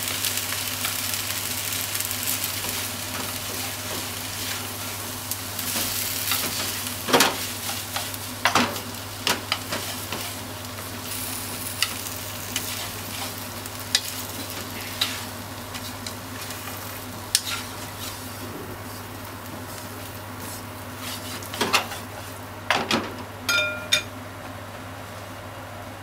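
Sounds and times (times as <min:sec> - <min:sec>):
food sizzling in a frying pan: 0:00.0 - 0:23.4.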